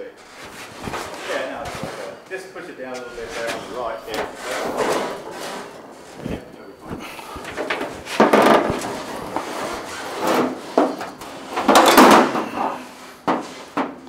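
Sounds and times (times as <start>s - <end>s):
tools scraping on metal roof: 0.0s - 2.3s, 2.9s - 14.0s.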